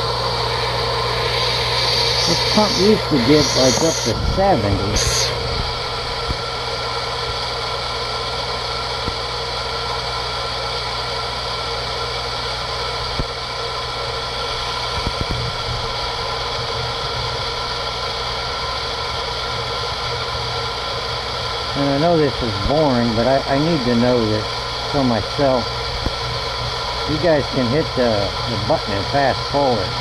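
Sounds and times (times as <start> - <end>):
water pump humming: 0.0 - 30.0.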